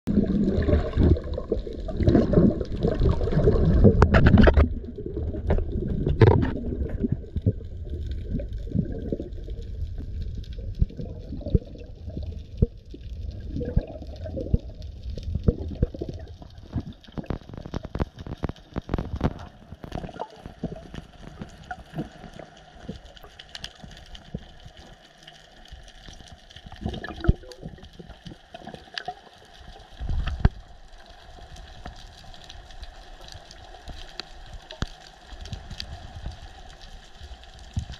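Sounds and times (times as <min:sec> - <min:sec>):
underwater clicks and crackles: 0:00.1 - 0:37.9
underwater rushing and gurgling: 0:00.1 - 0:37.9.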